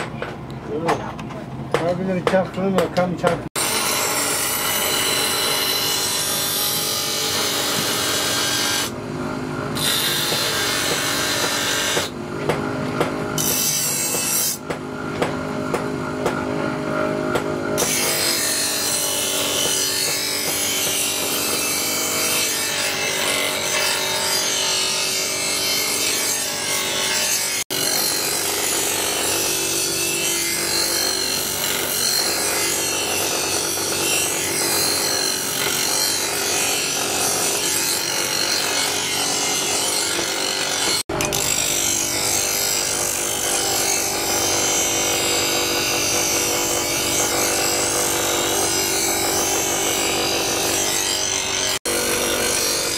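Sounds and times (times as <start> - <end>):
power tool grinding: 3.6 - 52.9.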